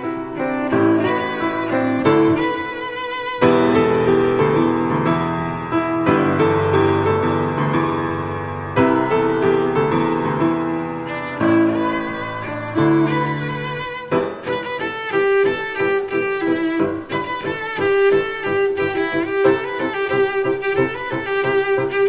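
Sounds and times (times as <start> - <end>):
bowed strings: 0.0 - 22.0
piano: 0.0 - 22.0.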